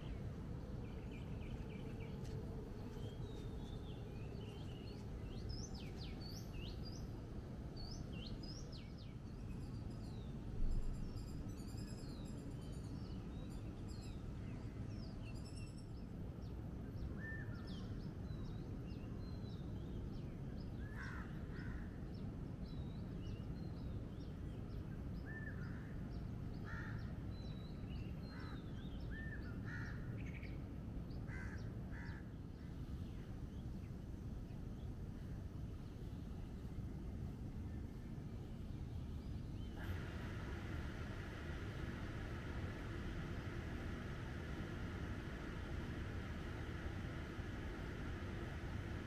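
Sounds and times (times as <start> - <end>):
low background rumble: 0.0 - 49.0
small birds chirping: 0.0 - 49.0.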